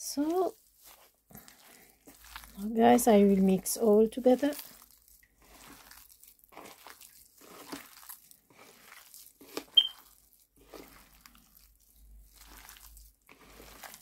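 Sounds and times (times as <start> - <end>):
hand squishing soft mixture: 0.0 - 14.0.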